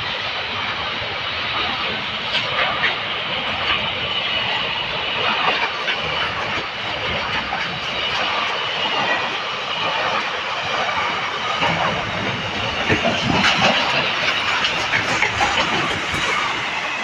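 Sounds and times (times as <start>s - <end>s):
freight train rumbling and rattling: 0.0s - 17.0s
train wheel clacks: 0.0s - 17.0s.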